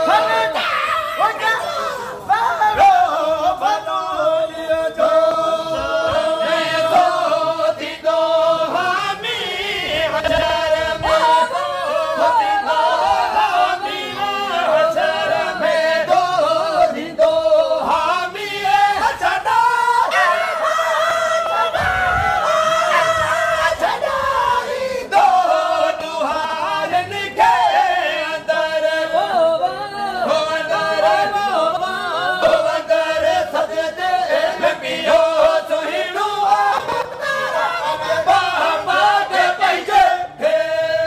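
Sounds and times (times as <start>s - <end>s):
voices singing a hymn unaccompanied: 0.0s - 41.0s.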